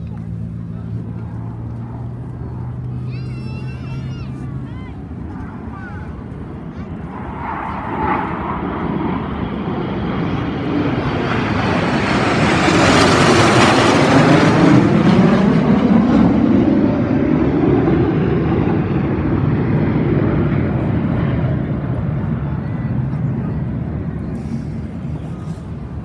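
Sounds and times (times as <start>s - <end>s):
jet aircraft roaring past: 0.0s - 26.0s.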